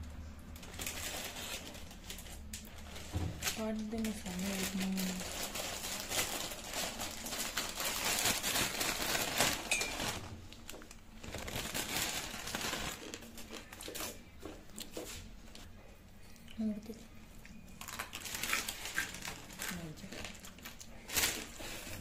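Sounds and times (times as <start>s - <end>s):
plastic packet crinkling: 0.5s - 14.2s, 17.8s - 22.0s.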